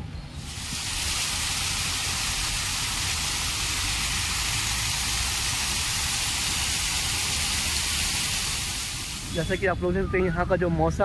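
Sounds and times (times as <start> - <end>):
fountain jets splashing: 0.4 - 10.6.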